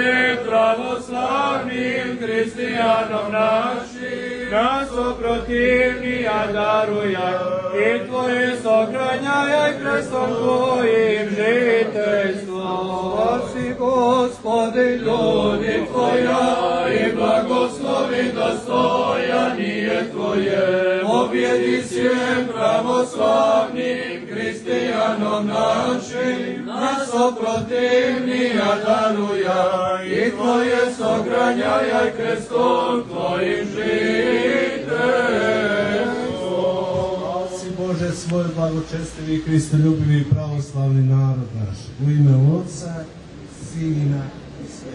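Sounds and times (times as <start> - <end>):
liturgical chanting: 0.0 - 44.9.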